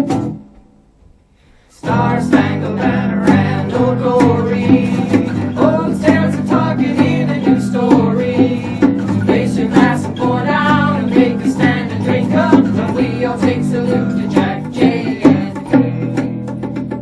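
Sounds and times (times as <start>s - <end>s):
acoustic band playing: 0.0s - 17.0s
several voices singing: 1.8s - 16.7s.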